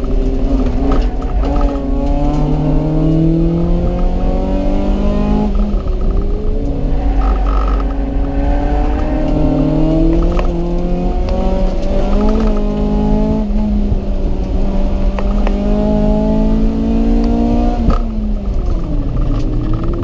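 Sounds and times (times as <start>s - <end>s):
car engine accelerating: 0.0s - 20.0s
wind and road noise rumble: 0.0s - 20.0s.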